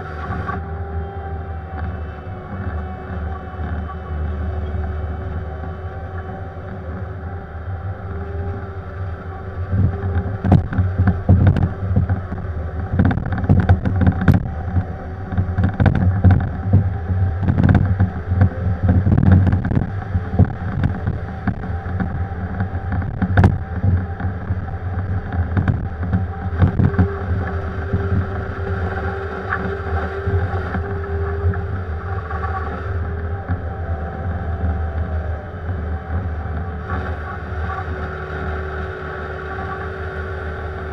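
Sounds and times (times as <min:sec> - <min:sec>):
diesel engine under load: 0:00.0 - 0:40.9
steady whine: 0:00.0 - 0:40.9.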